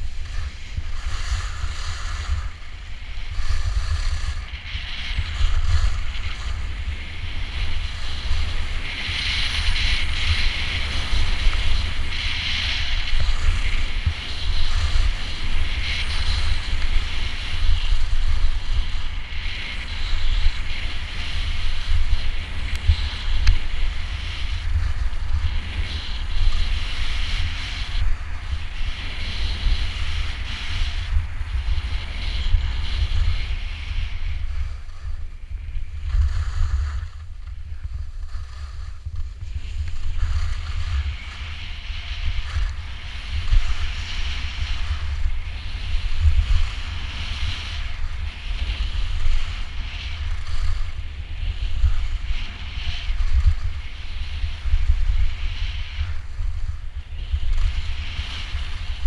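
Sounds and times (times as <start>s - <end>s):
skis scraping on snow: 0.0s - 59.0s
wind buffeting microphone: 0.0s - 59.0s.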